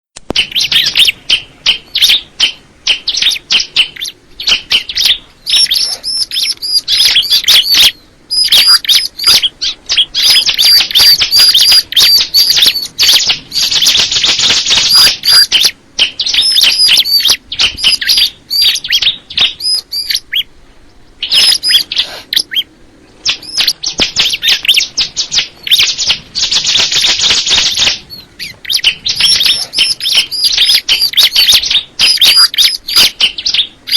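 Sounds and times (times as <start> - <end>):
bird singing high chirps: 0.3 - 33.9.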